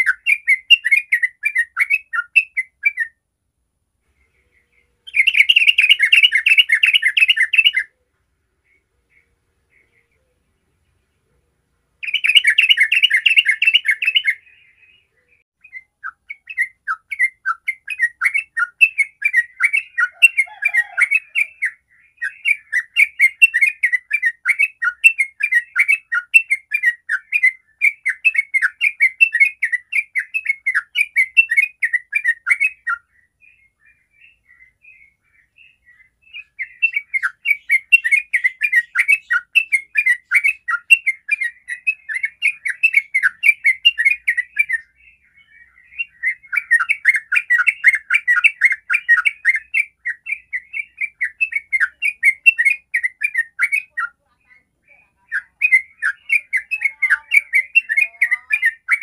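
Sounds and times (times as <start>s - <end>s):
bird singing chattering notes: 4.2s - 7.9s, 12.0s - 59.0s.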